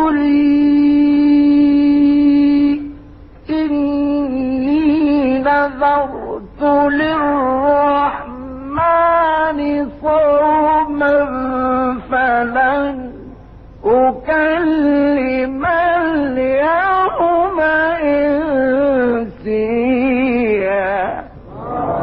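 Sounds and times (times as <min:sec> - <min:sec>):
person chanting melodic recitation: 0:00.0 - 0:02.9, 0:03.5 - 0:22.0.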